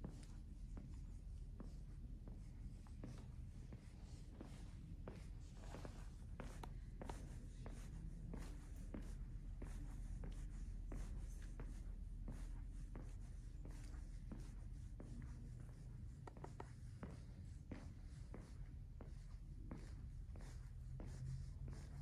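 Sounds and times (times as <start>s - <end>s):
low steady hum: 0.0s - 22.0s
soft footsteps walking: 0.0s - 22.0s.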